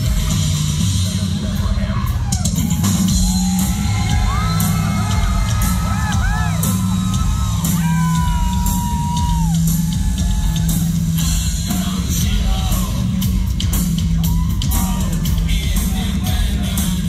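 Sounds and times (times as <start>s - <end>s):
distorted bass: 0.0s - 17.0s
steady drums: 0.0s - 17.0s
yelled vocals: 0.0s - 17.0s.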